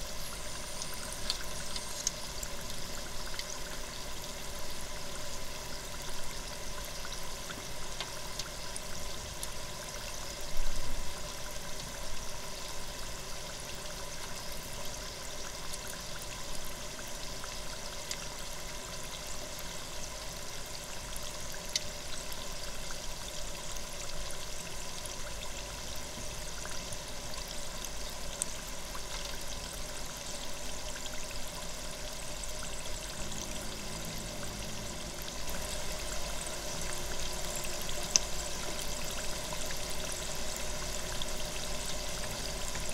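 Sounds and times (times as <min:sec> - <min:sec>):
food deep-frying in hot oil: 0:00.0 - 0:42.9.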